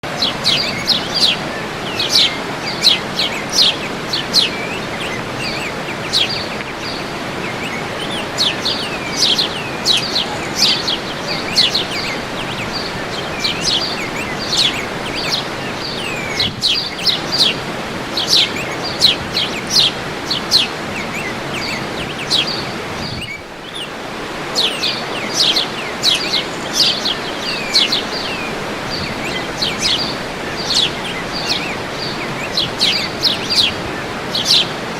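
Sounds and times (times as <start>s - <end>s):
birds chirping: 0.0s - 34.9s
waterfall rushing: 0.0s - 34.9s.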